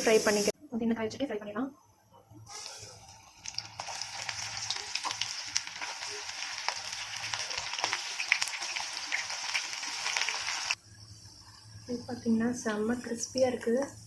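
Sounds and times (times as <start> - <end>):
food frying in hot oil: 2.5 - 14.0.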